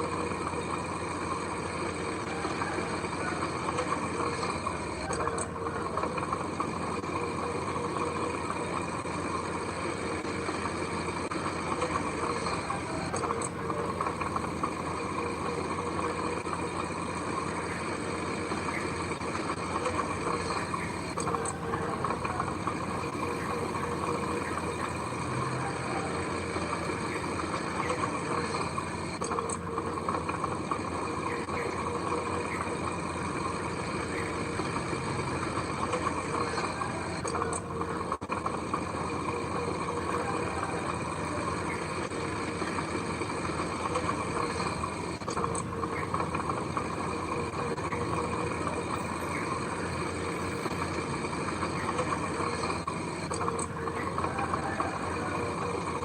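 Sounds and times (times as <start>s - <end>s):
diesel machine engine running: 0.0s - 56.0s.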